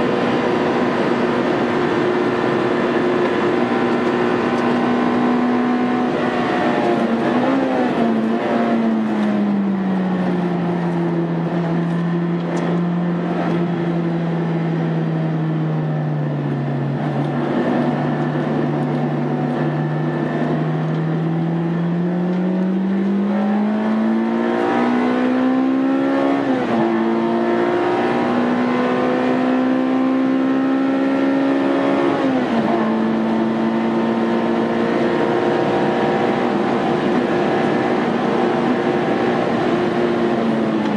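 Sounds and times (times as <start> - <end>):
car engine revving on track: 0.0 - 40.9.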